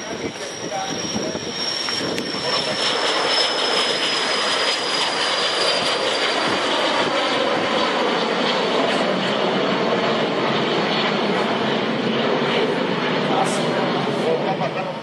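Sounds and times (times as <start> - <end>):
high jet whine: 0.0 - 15.0
jet engines roaring: 0.0 - 15.0.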